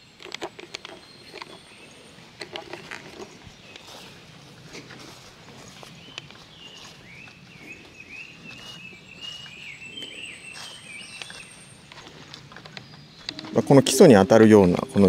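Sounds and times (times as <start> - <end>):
footsteps on trail: 0.5 - 13.8.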